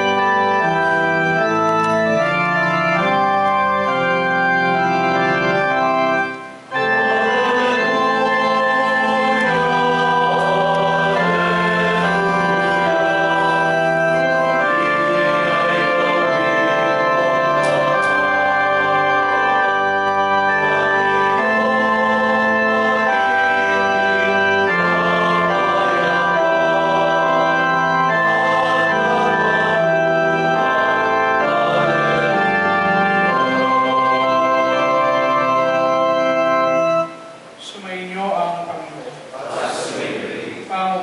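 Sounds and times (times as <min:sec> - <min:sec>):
organ playing sustained chords: 0:00.0 - 0:40.6.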